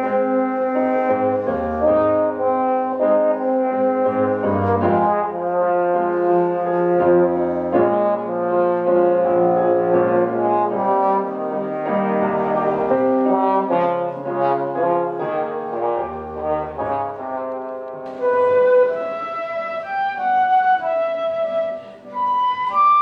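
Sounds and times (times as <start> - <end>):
electric keyboard accompaniment: 0.0 - 23.0
trombone melody: 0.0 - 23.0.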